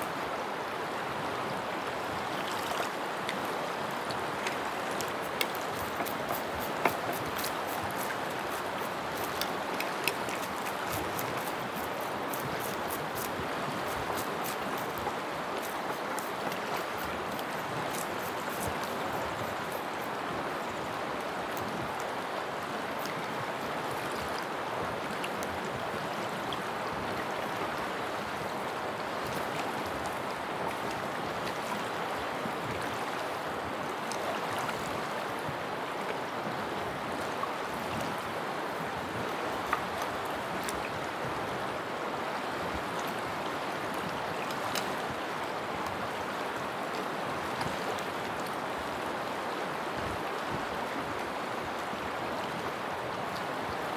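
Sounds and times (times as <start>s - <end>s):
mountain river rushing: 0.0s - 53.9s.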